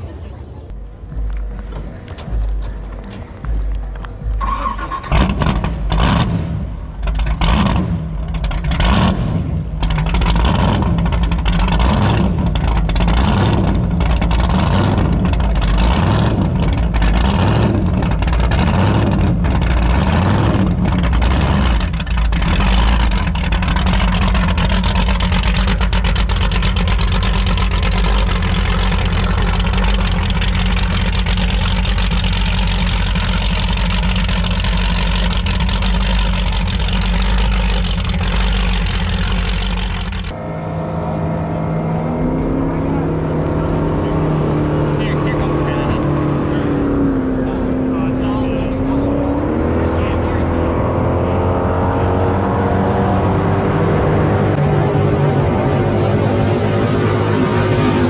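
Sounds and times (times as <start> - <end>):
powerboat engine revving: 4.2 - 58.0.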